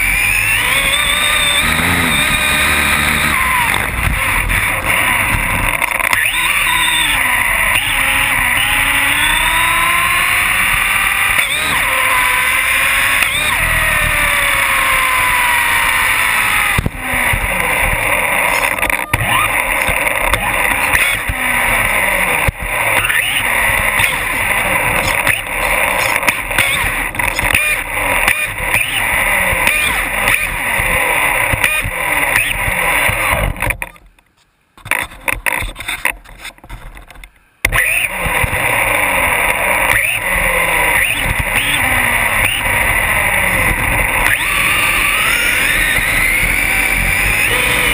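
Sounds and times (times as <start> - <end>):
electric motor whining: 0.0 - 33.7, 37.7 - 47.9
road noise: 0.0 - 47.9.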